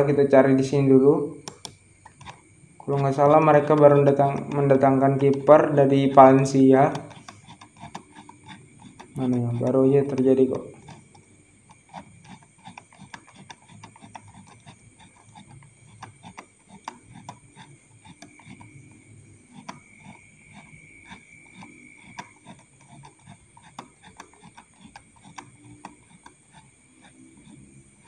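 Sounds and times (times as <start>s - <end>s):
light clicks and taps: 1.4s - 27.7s.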